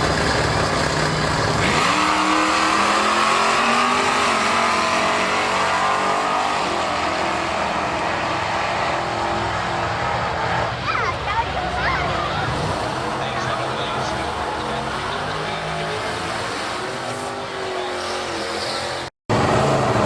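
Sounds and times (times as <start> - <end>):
drag car engine revving: 0.0 - 20.0.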